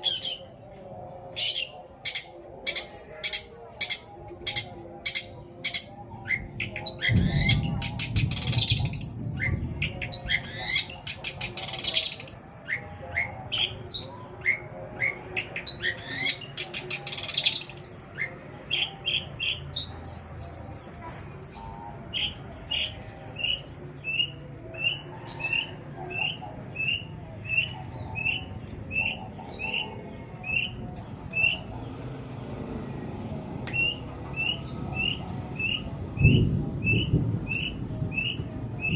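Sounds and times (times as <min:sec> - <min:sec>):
shrike singing: 0:00.0 - 0:38.9.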